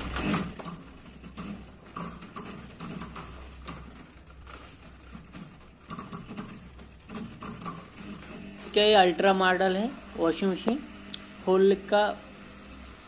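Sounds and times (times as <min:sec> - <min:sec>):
crackling motor clicks: 0:00.0 - 0:09.7, 0:10.6 - 0:11.4
washing machine motor humming: 0:00.0 - 0:13.0.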